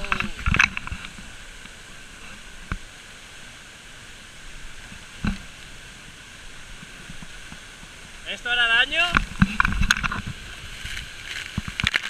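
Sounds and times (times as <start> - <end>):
waterfall rushing hiss: 0.0 - 12.0.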